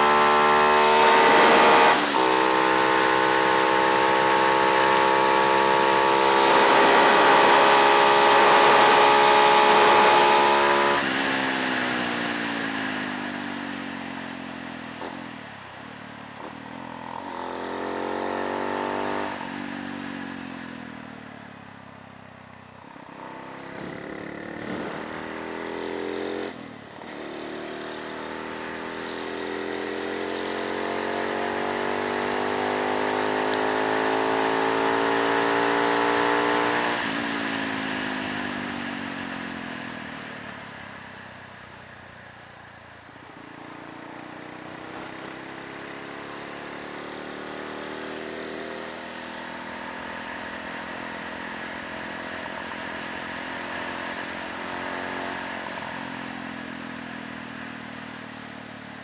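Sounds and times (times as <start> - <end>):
motorcycle engine revving: 0.0 - 42.0, 42.7 - 59.0.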